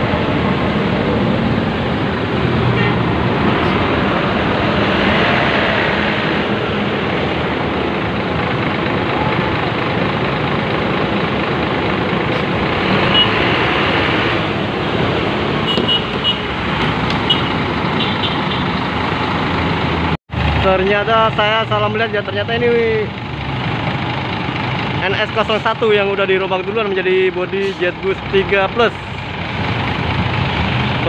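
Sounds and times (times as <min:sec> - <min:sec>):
bus diesel engine running: 0:00.0 - 0:31.0
street traffic: 0:00.0 - 0:31.0.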